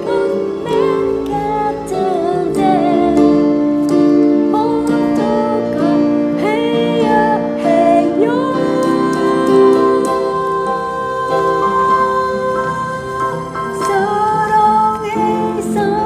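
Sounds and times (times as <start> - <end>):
woman singing a slow ballad: 0.0 - 3.6, 4.5 - 16.0
electronic keyboard chords: 0.0 - 16.0.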